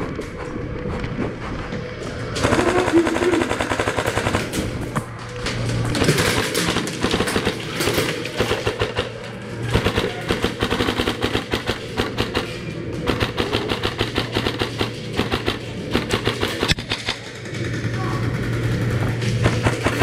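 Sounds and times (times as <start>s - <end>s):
airsoft rifles firing: 2.4s - 5.0s, 5.9s - 17.8s, 18.4s - 20.0s.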